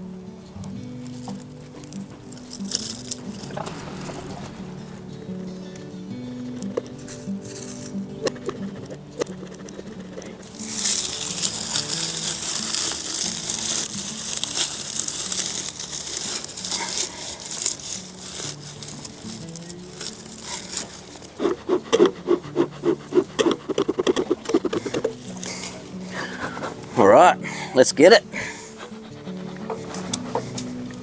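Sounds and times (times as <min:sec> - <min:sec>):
quiet background music: 0:00.0 - 0:31.0
bee smoker puffs: 0:00.2 - 0:31.0
pine needles crinkling and crackling: 0:00.4 - 0:31.0.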